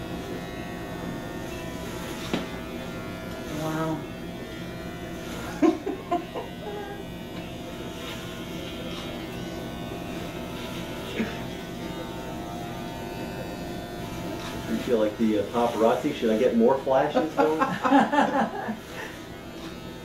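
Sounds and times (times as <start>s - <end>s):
electric hair clippers buzzing: 0.0s - 20.0s.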